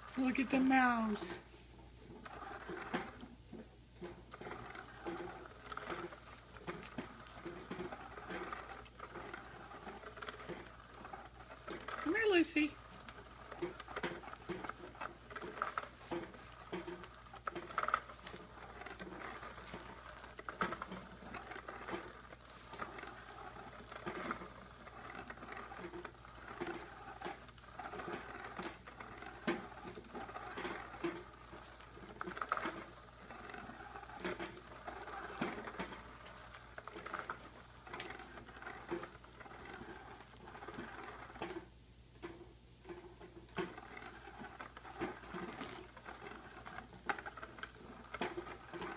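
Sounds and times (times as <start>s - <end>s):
toy scratching under fabric cover: 0.0s - 1.5s, 2.1s - 3.4s, 4.0s - 41.7s, 43.5s - 48.9s.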